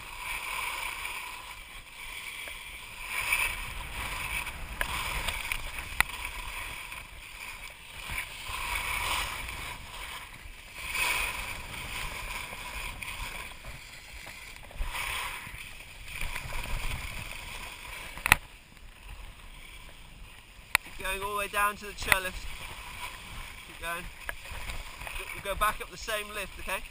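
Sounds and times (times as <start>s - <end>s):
skis scraping over snow: 0.0s - 26.9s.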